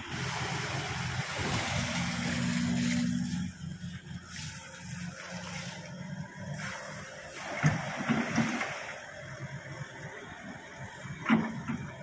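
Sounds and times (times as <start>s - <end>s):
diesel excavator engine running: 0.0s - 12.0s.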